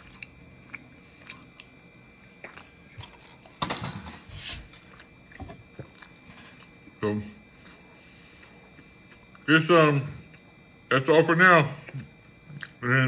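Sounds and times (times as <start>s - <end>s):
chewing soft food: 0.0s - 3.6s, 4.5s - 10.9s, 11.7s - 12.9s.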